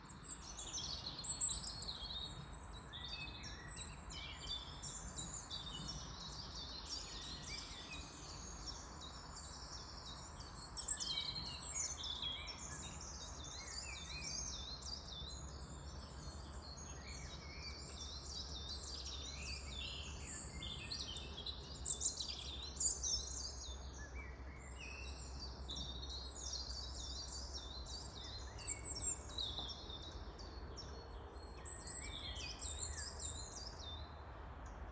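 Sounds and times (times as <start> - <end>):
songbirds chirping and singing: 0.1 - 34.1.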